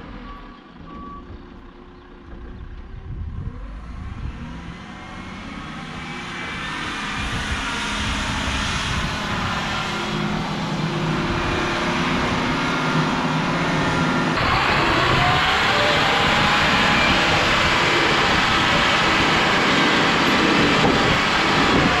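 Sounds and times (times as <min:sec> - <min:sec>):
skid-steer loader diesel engine: 0:00.0 - 0:22.0.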